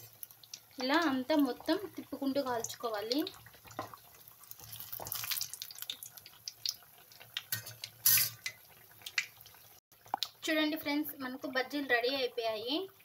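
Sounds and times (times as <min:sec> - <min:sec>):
fritters deep-frying in oil: 0:00.0 - 0:13.0.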